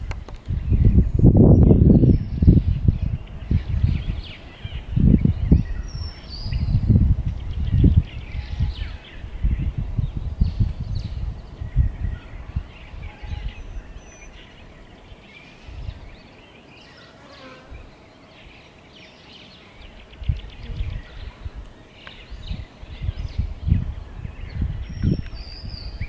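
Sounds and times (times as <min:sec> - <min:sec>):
wind buffeting microphone: 0:00.0 - 0:16.5, 0:19.8 - 0:26.0
small birds chirping: 0:00.0 - 0:26.0.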